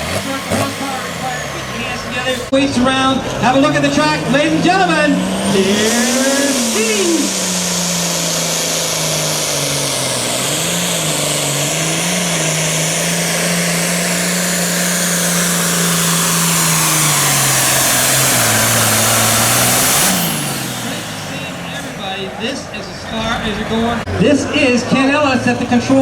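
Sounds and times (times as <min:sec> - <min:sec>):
tractor diesel engine at full throttle: 0:00.0 - 0:26.0.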